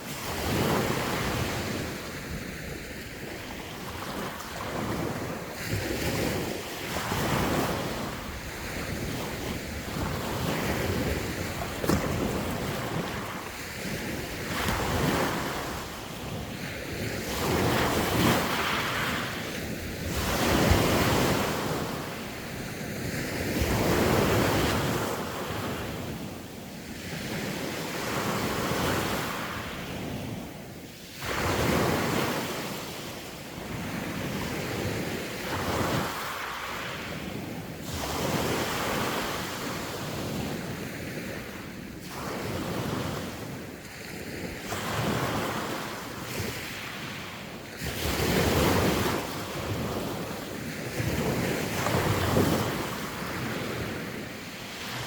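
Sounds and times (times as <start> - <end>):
sea waves breaking: 0.0 - 26.2, 27.0 - 55.0
wind buffeting microphone: 0.0 - 32.8, 33.6 - 55.0.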